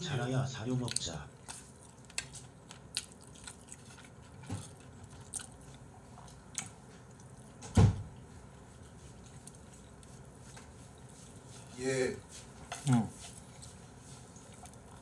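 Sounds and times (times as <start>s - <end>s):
biting and chewing chicken: 0.6s - 11.8s, 12.4s - 15.0s.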